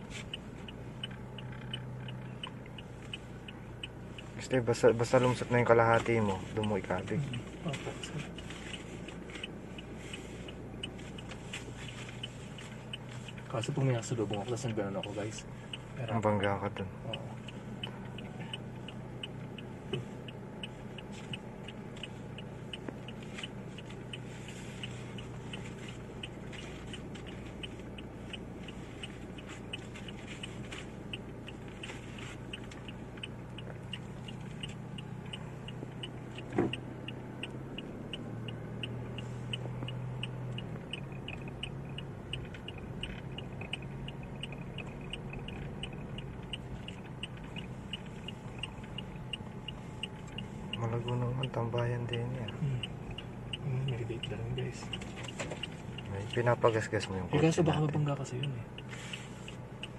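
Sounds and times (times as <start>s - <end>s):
car engine running: 0.0s - 59.9s
even ticking clicks: 0.0s - 59.9s.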